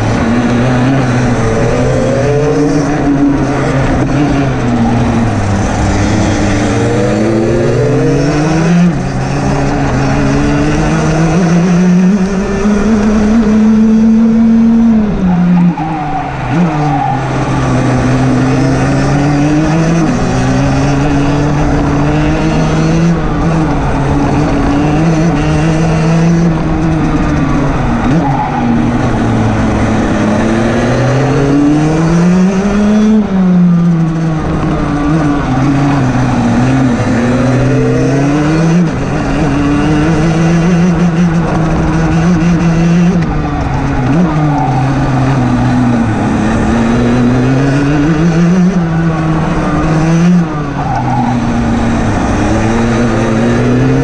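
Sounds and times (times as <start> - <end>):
kart two-stroke engine racing: 0.0 - 54.0.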